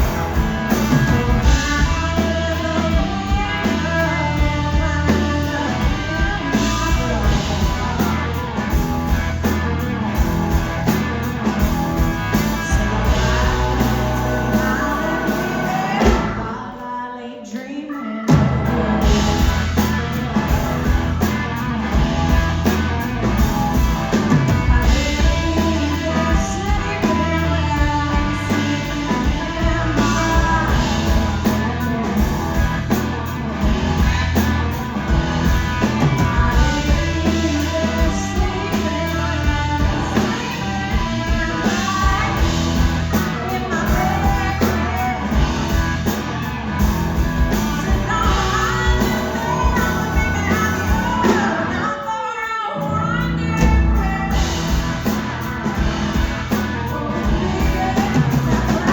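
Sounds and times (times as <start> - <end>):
person singing: 0.0 - 9.8, 11.2 - 46.2, 47.5 - 58.9
drums: 0.0 - 58.9
electric guitar: 0.0 - 58.9.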